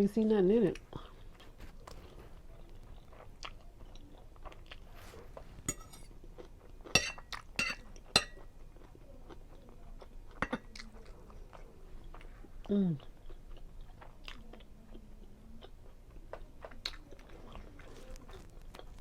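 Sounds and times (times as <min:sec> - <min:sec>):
close chewing: 0:00.8 - 0:19.0.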